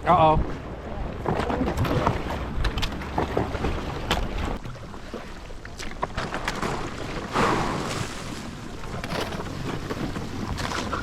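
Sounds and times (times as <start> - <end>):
water swish: 0.0 - 11.0
paddle strokes in water: 0.4 - 11.0.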